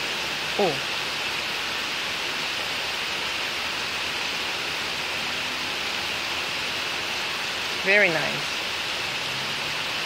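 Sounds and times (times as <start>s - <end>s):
heavy rain downpour: 0.0s - 10.0s.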